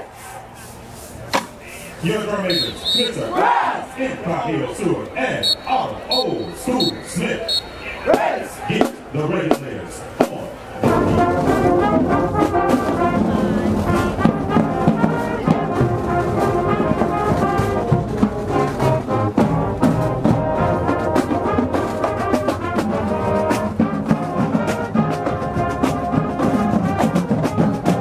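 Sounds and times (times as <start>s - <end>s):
brass section playing chords: 1.6s - 8.9s, 10.2s - 28.0s.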